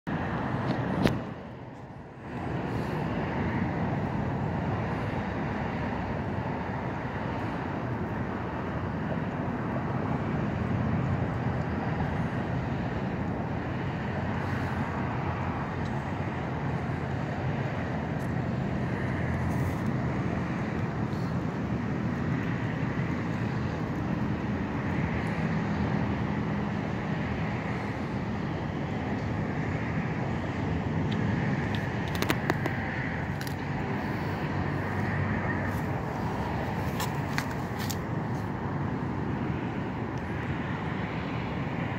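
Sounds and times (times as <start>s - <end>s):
distant road traffic rumble: 0.1s - 41.9s.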